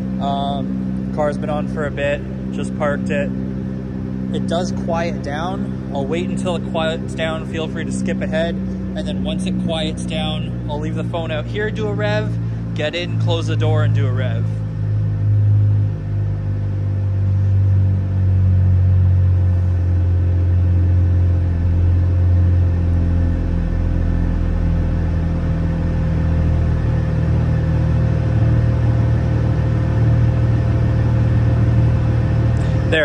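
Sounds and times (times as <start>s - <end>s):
car engine idling: 0.0s - 33.0s
machinery hum: 0.0s - 33.0s.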